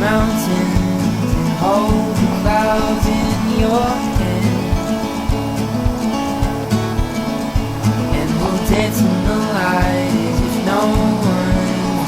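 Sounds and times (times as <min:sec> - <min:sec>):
pop song with acoustic guitar: 0:00.0 - 0:12.0.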